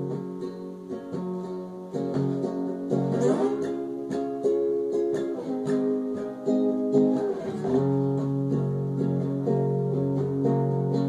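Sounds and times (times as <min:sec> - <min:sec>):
small string instrument strummed: 0:00.0 - 0:11.0.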